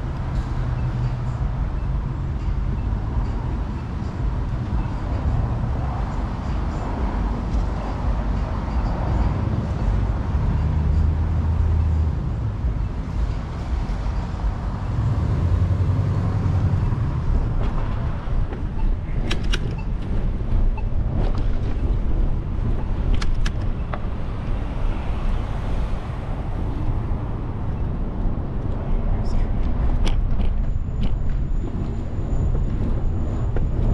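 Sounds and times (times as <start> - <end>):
wind rumble on microphone: 0.0 - 33.9.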